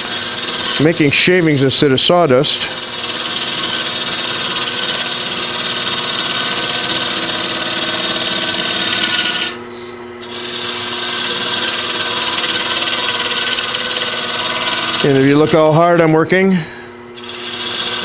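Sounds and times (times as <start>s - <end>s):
cutter scraping wood: 0.0s - 9.6s, 10.2s - 16.2s, 17.2s - 18.0s
lathe humming: 0.0s - 18.0s.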